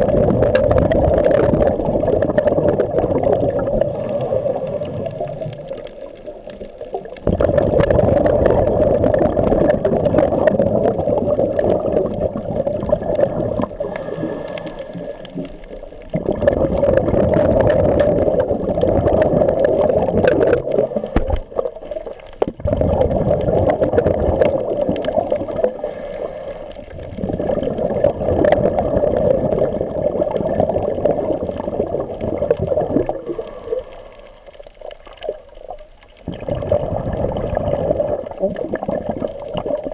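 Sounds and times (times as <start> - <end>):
underwater rushing and bubbles: 0.0 - 39.9.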